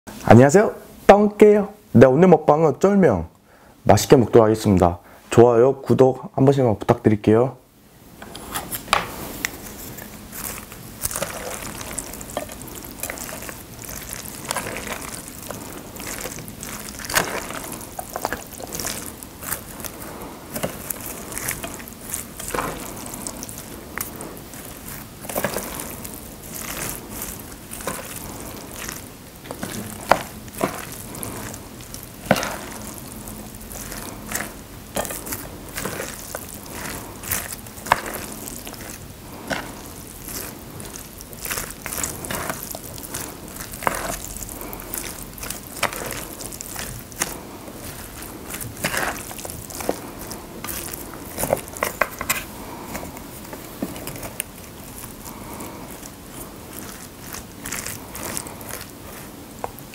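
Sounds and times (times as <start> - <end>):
wet squishing and crackling rustle: 8.2 - 59.9.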